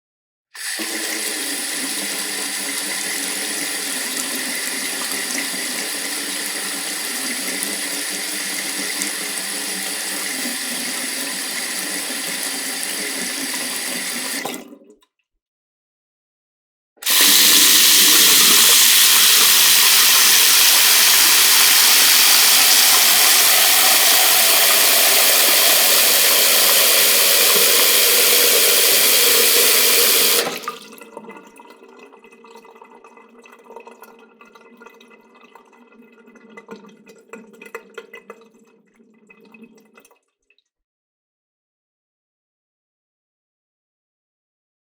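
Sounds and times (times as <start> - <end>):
faucet running into sink: 0.6 - 14.8, 17.0 - 38.8.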